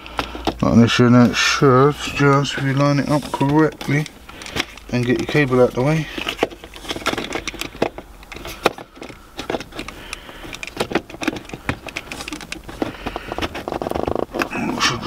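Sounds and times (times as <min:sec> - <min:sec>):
plastic trim clicks and knocks: 0:00.0 - 0:14.5.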